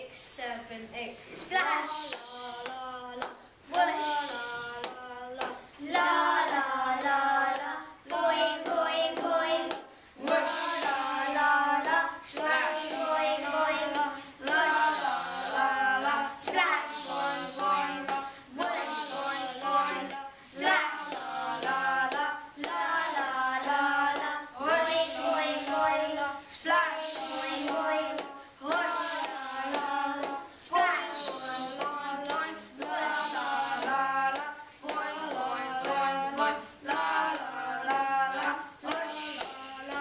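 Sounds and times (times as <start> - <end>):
boys singing and chanting: 0.0 - 40.0.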